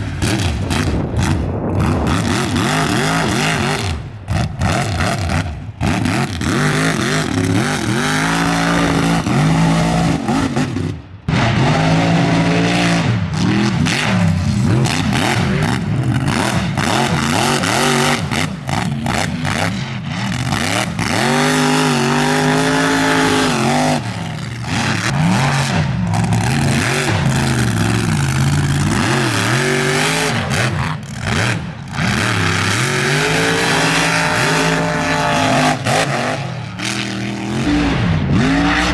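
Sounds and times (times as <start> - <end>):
truck engines revving: 0.0 - 38.9.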